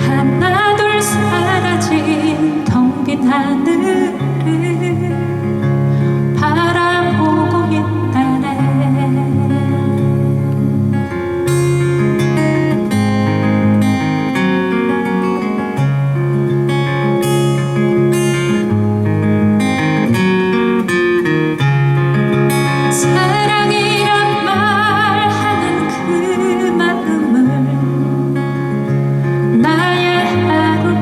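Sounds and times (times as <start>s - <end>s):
wavering melody with vibrato: 0.0s - 18.9s, 21.6s - 31.0s
acoustic guitar strumming chords: 0.0s - 31.0s.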